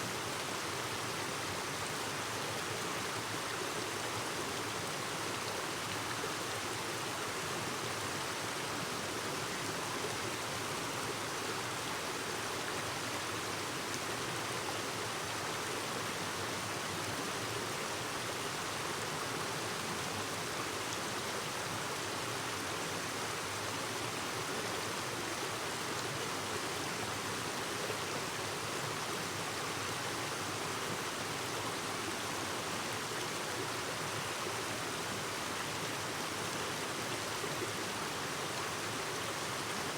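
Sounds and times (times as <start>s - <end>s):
stream flowing over rocks: 0.1s - 39.9s.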